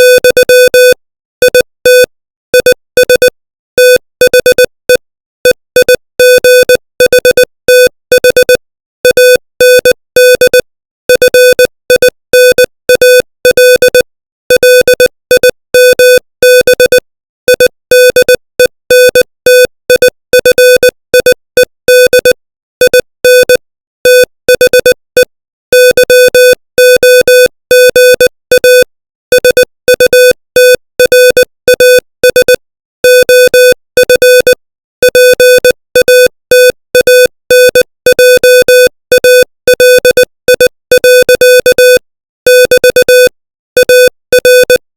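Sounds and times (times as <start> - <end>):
morse code beeps: 0.0 - 44.8.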